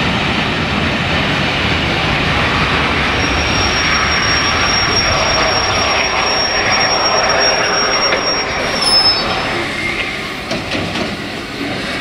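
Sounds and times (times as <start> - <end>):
train rolling rumble: 0.0 - 12.0
train wheels squealing: 1.6 - 12.0.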